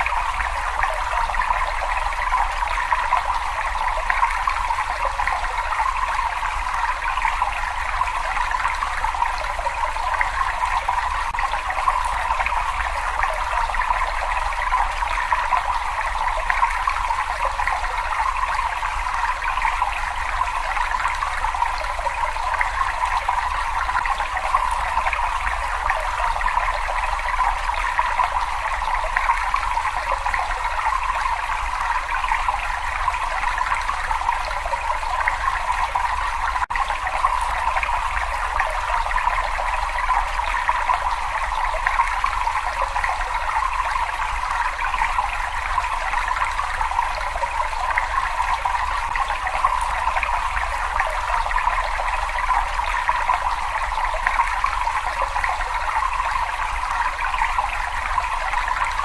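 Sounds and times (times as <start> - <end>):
water running and trickling: 0.0 - 59.0.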